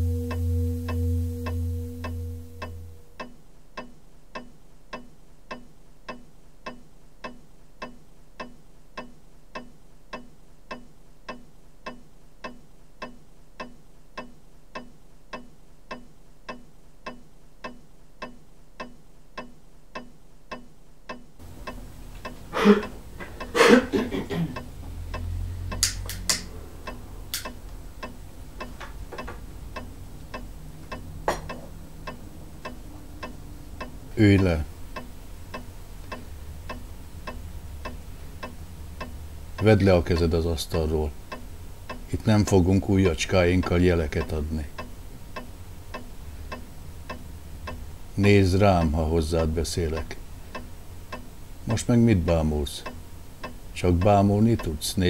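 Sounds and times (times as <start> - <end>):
room noise: 0.0 - 55.0
steady ticking: 0.0 - 55.0.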